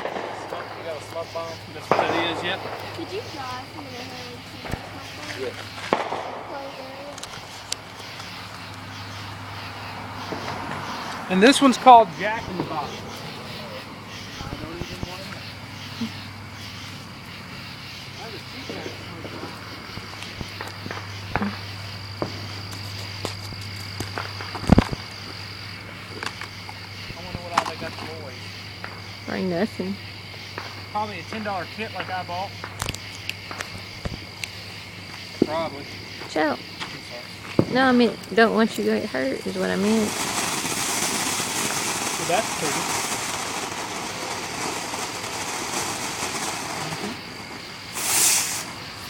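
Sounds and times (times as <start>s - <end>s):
crickets trilling: 0.0s - 49.0s
fountain firework hissing and crackling: 0.0s - 49.0s.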